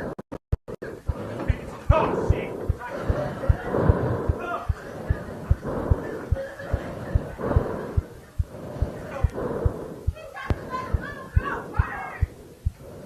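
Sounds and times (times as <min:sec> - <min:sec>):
steady low thumps: 0:00.0 - 0:13.0.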